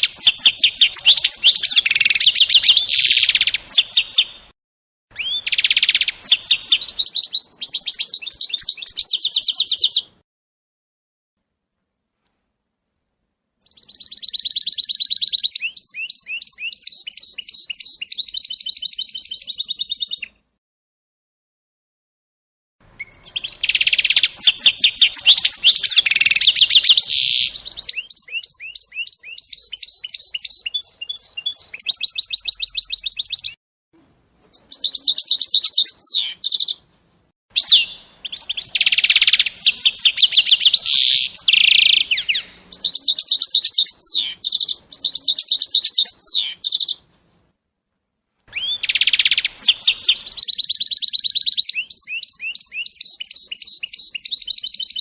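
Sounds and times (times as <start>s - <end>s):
songbird trilling and chirping: 0.0s - 4.5s, 5.2s - 10.2s, 13.6s - 20.4s, 23.0s - 33.6s, 34.4s - 36.8s, 37.6s - 47.0s, 48.5s - 55.0s.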